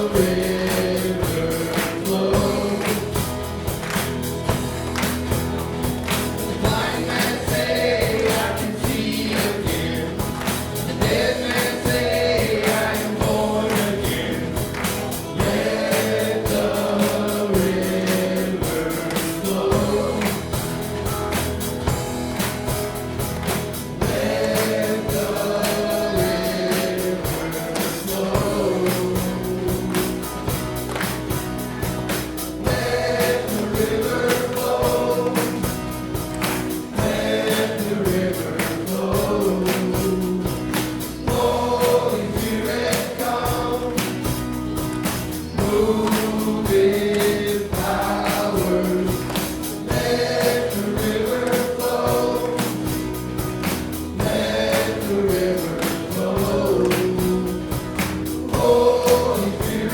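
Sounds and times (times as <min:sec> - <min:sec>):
band drum beat: 0:00.0 - 0:59.9
group of voices singing: 0:00.0 - 0:59.9.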